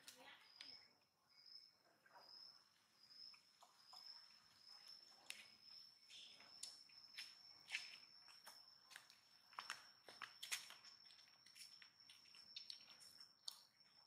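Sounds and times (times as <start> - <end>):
high-pitched insect trill: 0.0 - 14.0.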